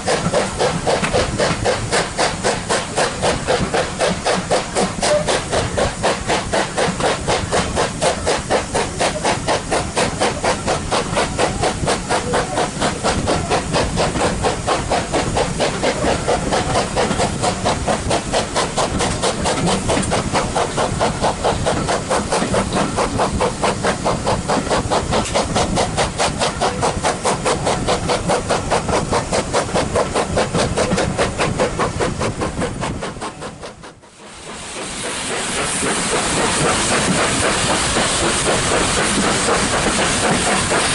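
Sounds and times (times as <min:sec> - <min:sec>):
steam hissing: 0:00.0 - 0:40.9
steam locomotive exhaust beats: 0:00.0 - 0:40.9.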